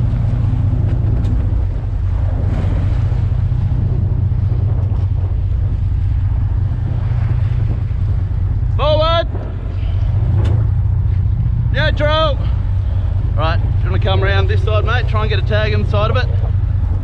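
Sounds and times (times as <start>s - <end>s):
boat engine rumbling: 0.0s - 17.0s
water splashing along hull: 0.0s - 17.0s
wind buffeting microphone: 0.0s - 17.0s.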